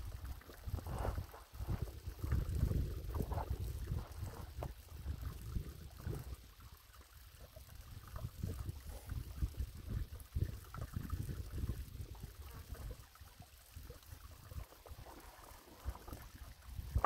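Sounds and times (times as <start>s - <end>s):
faint crackles: 0.0s - 17.0s
wind rumbling on microphone: 0.0s - 17.0s.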